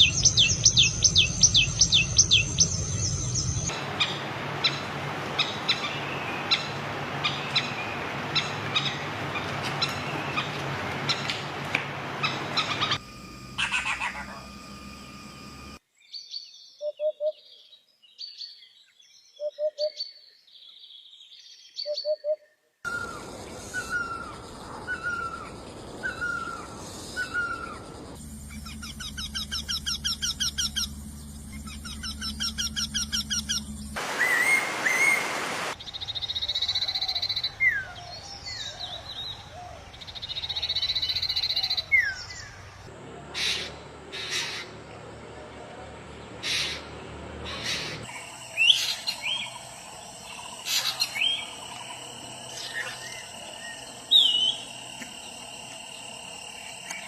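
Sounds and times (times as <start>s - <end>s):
birds singing and calling: 0.0s - 13.0s, 16.0s - 57.0s.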